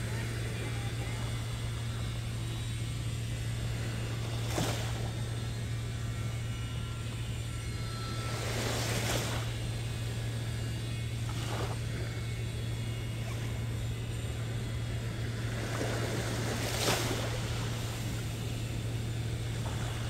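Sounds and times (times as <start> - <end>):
construction machinery drone: 0.0 - 20.0.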